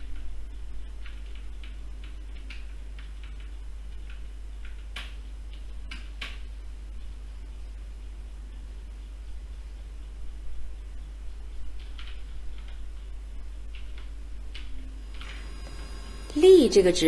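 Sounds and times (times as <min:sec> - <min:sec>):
faint ticks and clicks: 0:00.0 - 0:16.4
low steady hum: 0:00.0 - 0:17.0.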